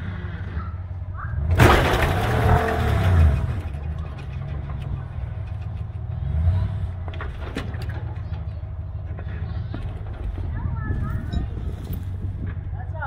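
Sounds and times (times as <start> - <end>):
engine revving under load: 0.0 - 12.8.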